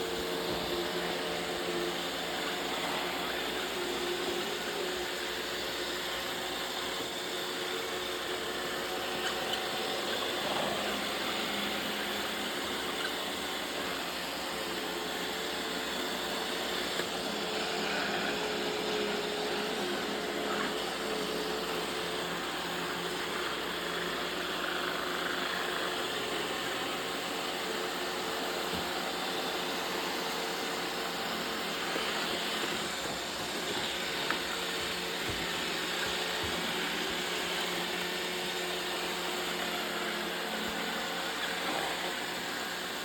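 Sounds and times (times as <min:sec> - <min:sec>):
robot vacuum motor whirring: 0:00.0 - 0:43.0.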